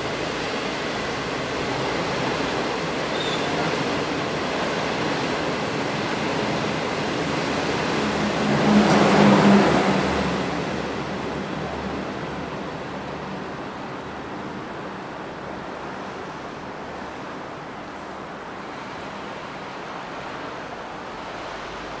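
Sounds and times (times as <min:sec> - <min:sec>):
passing train rumble: 0:00.0 - 0:22.0.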